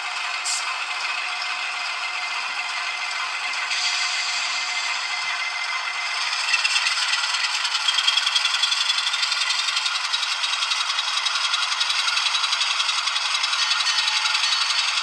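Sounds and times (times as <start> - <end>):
thin diesel engine chugging: 0.0 - 15.0.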